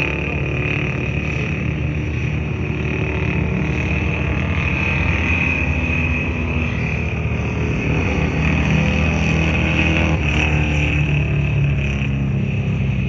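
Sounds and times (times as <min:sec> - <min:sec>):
racing engines at high revs: 0:00.0 - 0:13.0.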